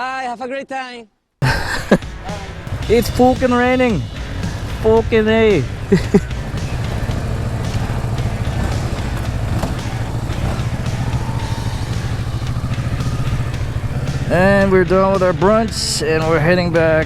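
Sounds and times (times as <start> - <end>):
motorcycle engine running: 1.4 - 17.0.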